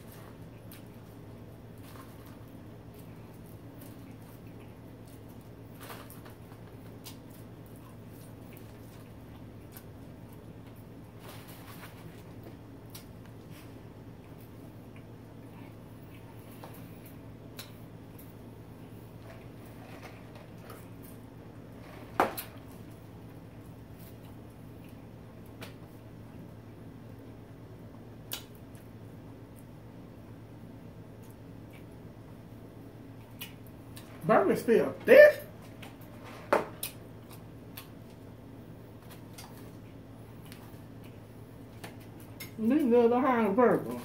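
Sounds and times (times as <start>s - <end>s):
chewing food: 0.0s - 27.4s, 31.0s - 34.2s, 35.5s - 42.8s
steady low hum: 0.0s - 44.0s.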